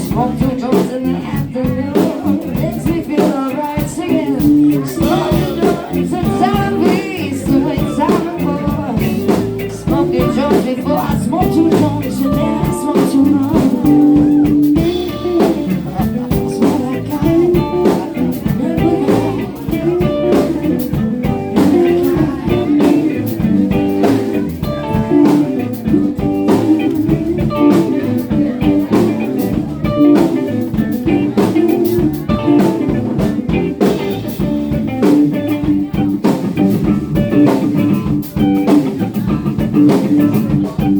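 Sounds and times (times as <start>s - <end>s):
electric guitar: 0.0s - 40.9s
live band bluesy groove: 0.0s - 40.9s.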